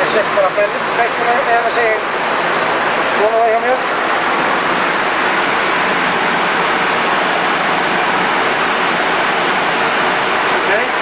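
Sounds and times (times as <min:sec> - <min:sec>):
airflow rushing in cockpit: 0:00.0 - 0:11.0
faint engine hum: 0:00.0 - 0:11.0.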